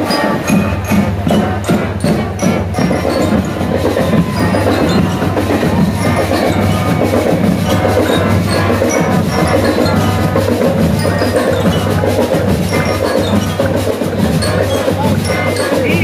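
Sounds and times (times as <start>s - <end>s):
bell lyres ringing: 0.0s - 16.0s
marching band playing: 0.0s - 16.0s
steady drum beat: 0.0s - 16.0s.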